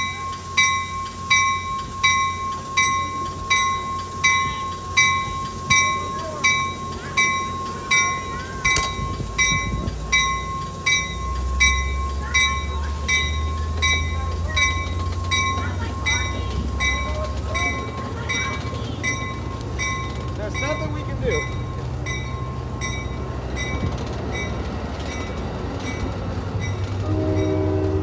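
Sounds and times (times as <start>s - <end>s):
rolling train rumble: 0.0s - 28.0s
train bell ringing: 0.0s - 28.0s.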